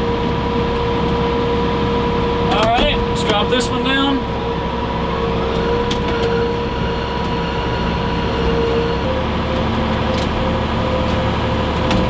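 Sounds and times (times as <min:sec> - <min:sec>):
steady high whine: 0:00.0 - 0:12.0
tractor engine drone: 0:00.0 - 0:12.0.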